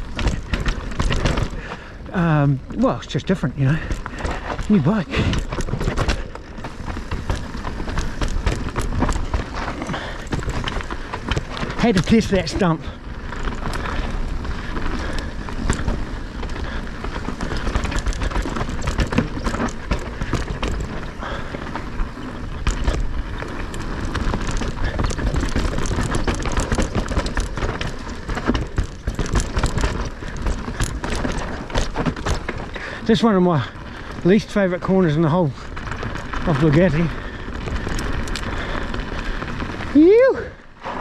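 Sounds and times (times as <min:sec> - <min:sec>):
bike knocks and rattles: 0:00.0 - 0:41.0
bike tyre noise on dirt: 0:00.0 - 0:41.0.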